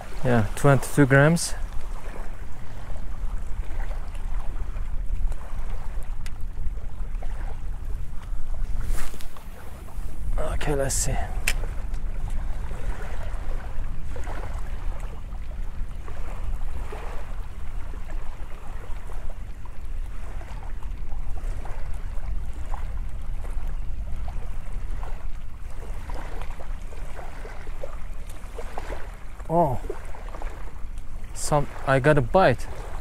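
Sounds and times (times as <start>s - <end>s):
wind on microphone: 0.0s - 31.8s
small waves washing: 0.0s - 33.0s.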